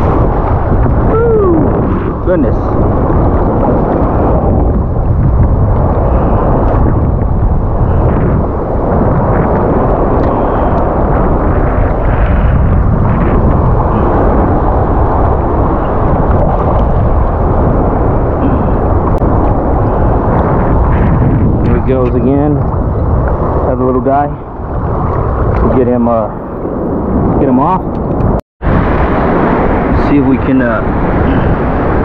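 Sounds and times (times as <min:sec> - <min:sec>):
surf washing: 0:00.0 - 0:32.0
wind buffeting microphone: 0:00.0 - 0:32.0.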